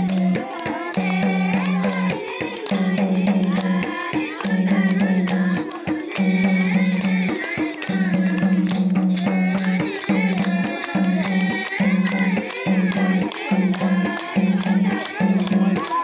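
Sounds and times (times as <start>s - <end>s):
drum and jingle percussion: 0.0s - 16.0s
person singing: 0.0s - 16.0s.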